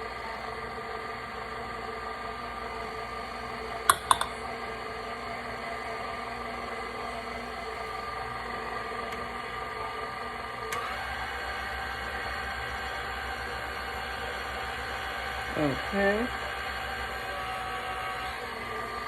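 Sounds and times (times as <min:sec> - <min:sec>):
electric mixer motor hum: 0:00.0 - 0:19.0.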